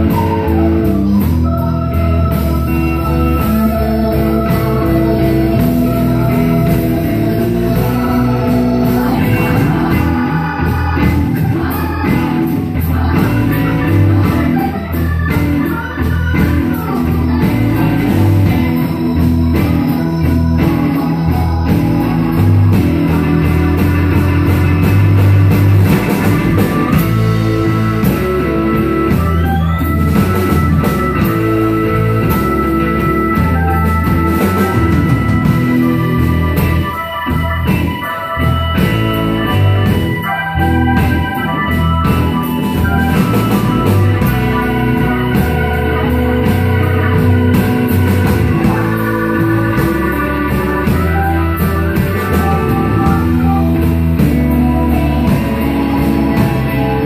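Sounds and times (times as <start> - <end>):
drum kit with cymbals: 0.0 - 57.0
electric bass: 0.0 - 57.0
keyboard sustained chords: 0.0 - 57.0.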